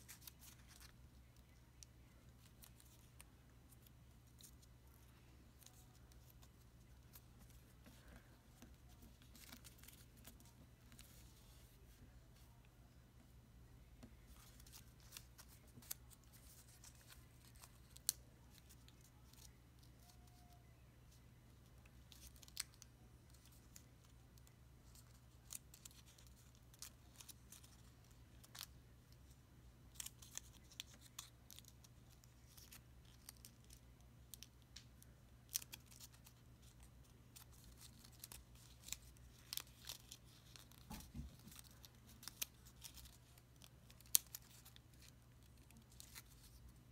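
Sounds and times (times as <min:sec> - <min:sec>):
paper crackling and crinkling: 0:00.0 - 0:12.7, 0:14.0 - 0:46.9
low steady hum: 0:00.0 - 0:46.9.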